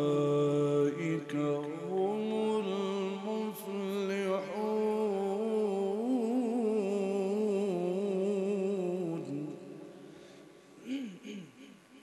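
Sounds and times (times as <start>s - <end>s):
man reciting in melodic chant: 0.0s - 12.0s.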